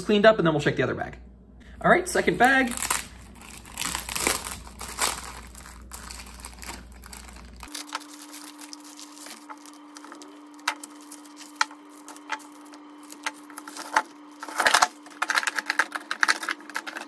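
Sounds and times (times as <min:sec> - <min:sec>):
low hum: 0:01.0 - 0:17.0.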